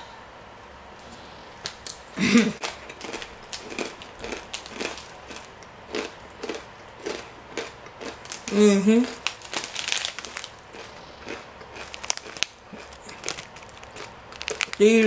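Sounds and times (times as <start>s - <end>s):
person chewing a snack: 2.6s - 15.0s.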